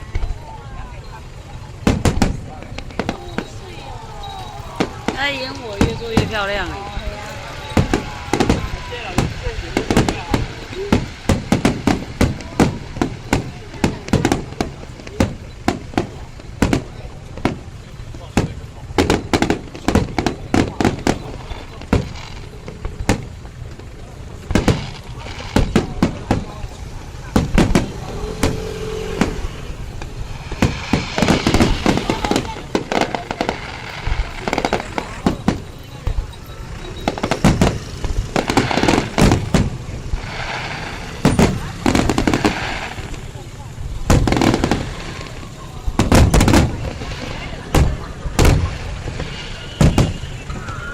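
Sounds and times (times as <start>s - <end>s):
continuous low rumble: 0.0s - 50.9s
fireworks bangs: 0.0s - 50.9s.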